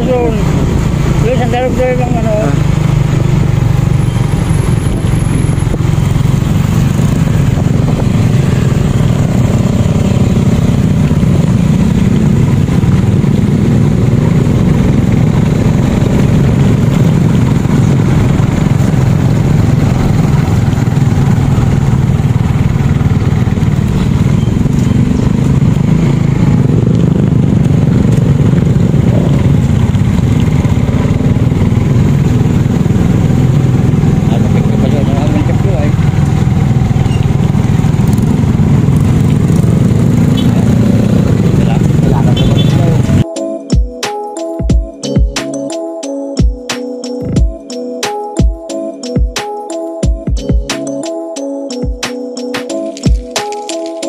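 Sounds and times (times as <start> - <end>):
motorcycle engine: 0.0 - 43.9, 46.4 - 54.0
road noise: 0.0 - 54.0.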